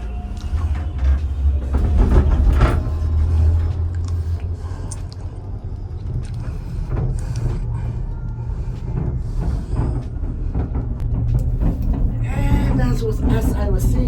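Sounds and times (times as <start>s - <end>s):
gondola cabin rumble: 0.0s - 14.0s.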